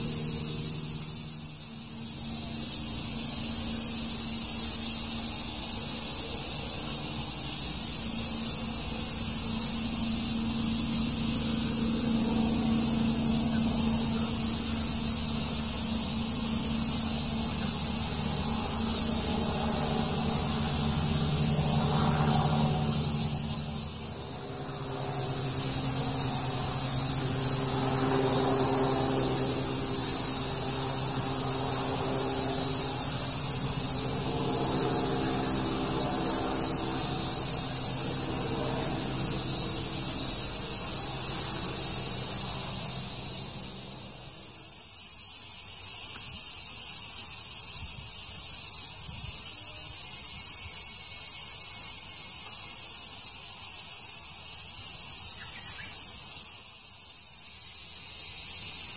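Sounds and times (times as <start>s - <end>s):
cicadas buzzing: 0.0s - 58.9s.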